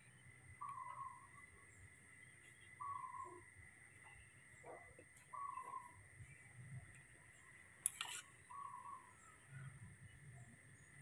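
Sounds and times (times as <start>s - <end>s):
faint steady high whine: 0.0s - 11.0s.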